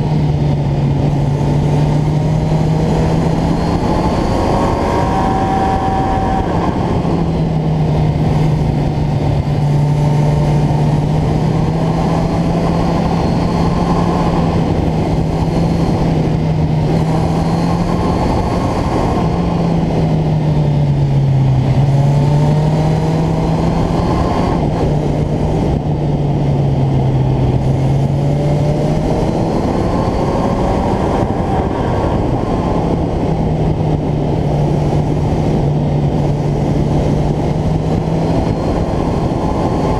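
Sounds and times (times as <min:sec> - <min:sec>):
motorcycle engine running: 0:00.0 - 0:39.9
wind rushing: 0:00.0 - 0:39.9.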